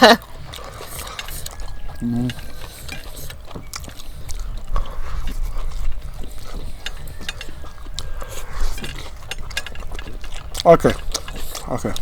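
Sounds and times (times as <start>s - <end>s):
chewing food clicks and smacks: 0.0s - 12.0s.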